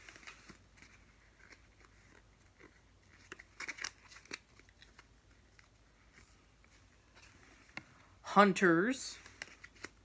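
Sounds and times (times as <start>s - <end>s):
game cards clicking and rustling: 0.0s - 8.0s, 9.2s - 10.0s.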